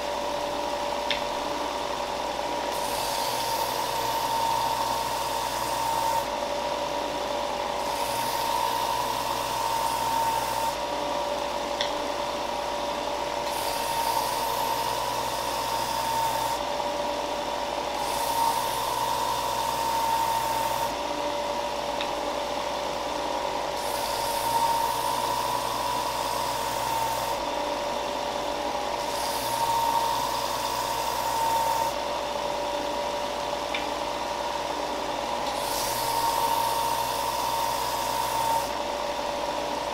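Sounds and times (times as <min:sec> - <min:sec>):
belt sander running: 0:00.0 - 0:39.9.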